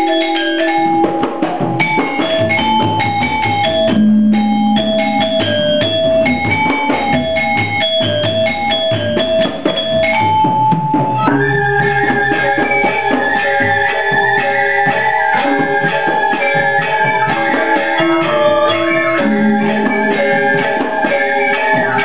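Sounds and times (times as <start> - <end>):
drums: 0.0 - 22.0
metallophones striking rapid notes: 0.0 - 22.0.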